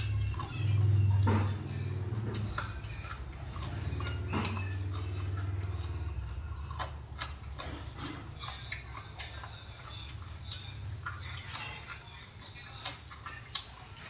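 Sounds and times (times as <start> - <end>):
low steady hum: 0.0 - 14.0
person chewing with wet mouth clicks: 0.0 - 14.0.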